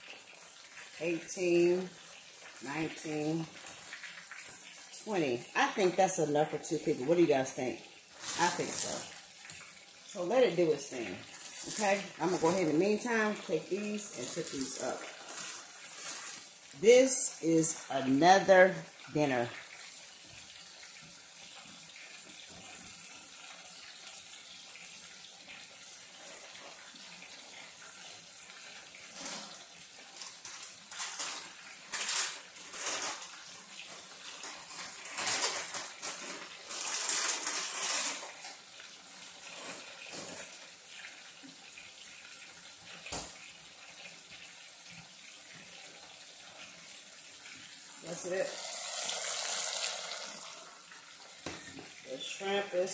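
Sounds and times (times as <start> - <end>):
shrimp sizzling in hot oil: 0.0 - 52.9.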